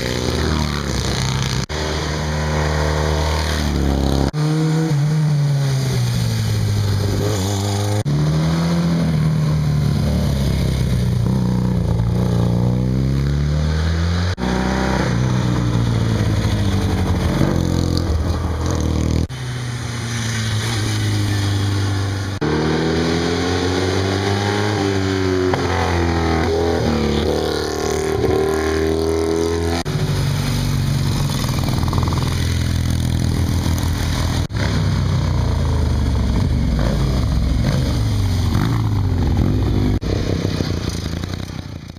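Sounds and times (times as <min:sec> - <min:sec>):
motorcycle engines accelerating: 0:00.0 - 0:41.9.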